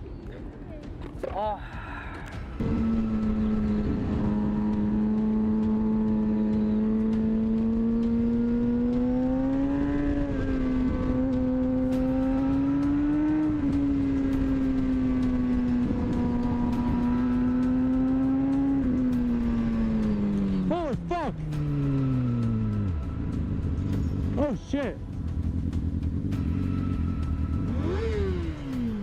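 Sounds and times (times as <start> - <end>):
motorcycle engine running: 2.2 - 29.0.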